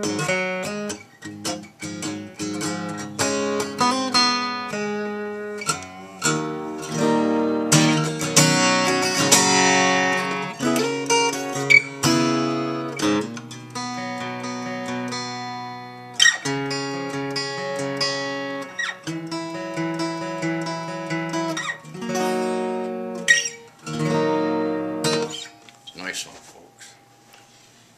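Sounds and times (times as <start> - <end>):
acoustic guitar strummed and picked: 0.0 - 26.8.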